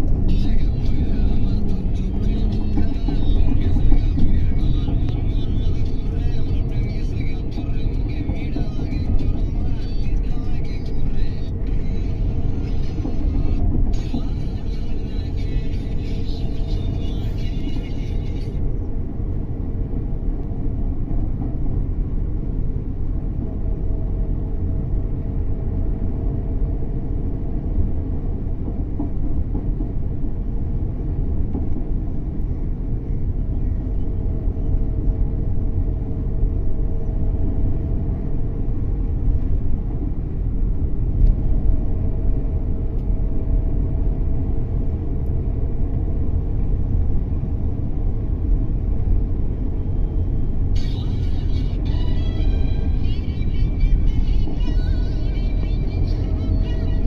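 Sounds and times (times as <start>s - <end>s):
airliner engine rumble: 0.0s - 57.0s
faint hum: 0.0s - 57.0s.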